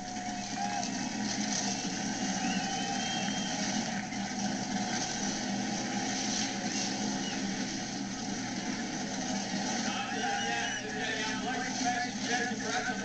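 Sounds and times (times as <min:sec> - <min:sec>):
monster truck engine rumbling: 0:00.0 - 0:13.0.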